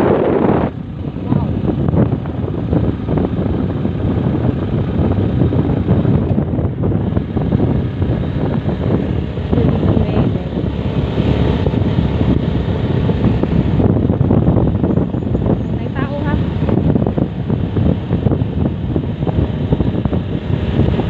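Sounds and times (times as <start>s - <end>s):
moving vehicle rumble: 0.0s - 21.0s
wind buffeting the microphone: 0.0s - 21.0s.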